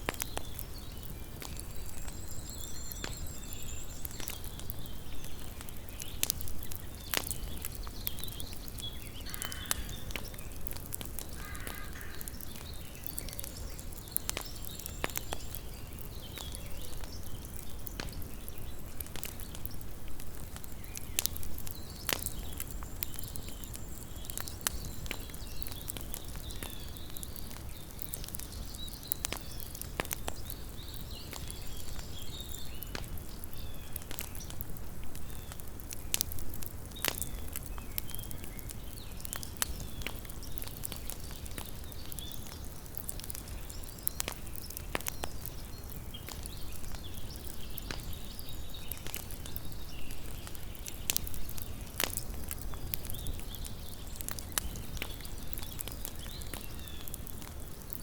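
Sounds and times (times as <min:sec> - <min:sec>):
campfire crackling and popping: 0:00.0 - 0:58.0
flames rumbling and hissing: 0:00.0 - 0:58.0.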